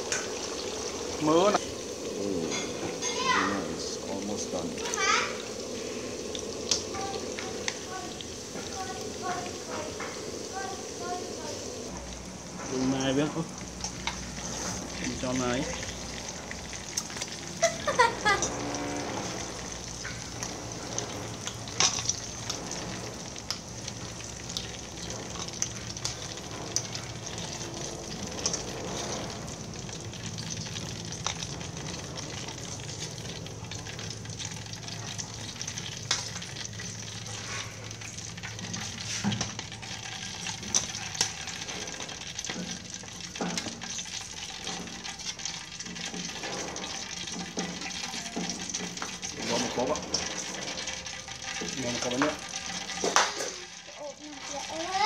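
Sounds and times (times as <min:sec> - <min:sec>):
fries sizzling in oil: 0:00.0 - 0:55.0
skimmer scraping against wok: 0:05.4 - 0:55.0.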